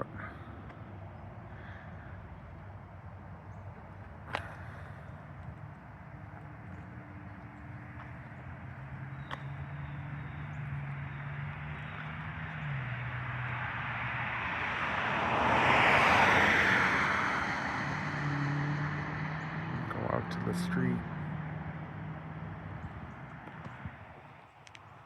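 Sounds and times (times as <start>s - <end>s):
vehicle passing by: 0.0s - 24.2s.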